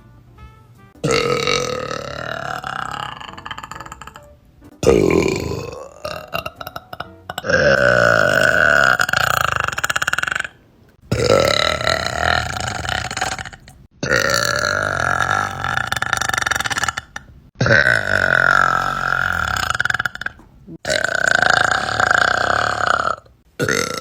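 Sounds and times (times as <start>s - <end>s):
women burping: 1.0s - 24.0s.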